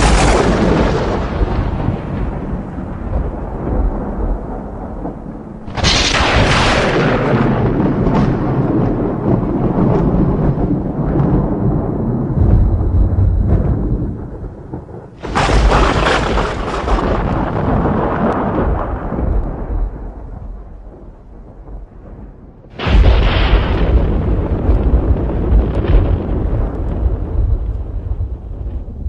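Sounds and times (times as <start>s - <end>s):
thunder cracking and rumbling: 0.0s - 29.0s.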